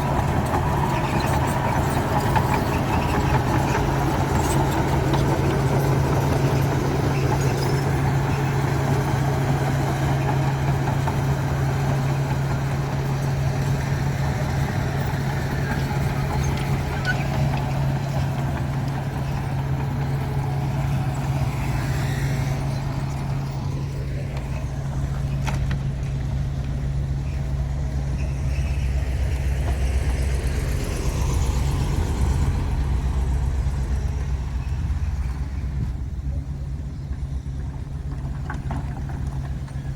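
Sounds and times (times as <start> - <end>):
diesel machinery droning: 0.0 - 39.9.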